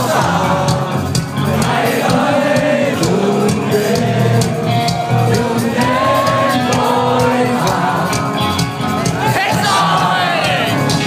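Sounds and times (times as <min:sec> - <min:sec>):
crowd shouting: 0:00.0 - 0:08.2, 0:08.9 - 0:11.0
person singing: 0:00.0 - 0:11.0
rock band playing live: 0:00.0 - 0:11.0.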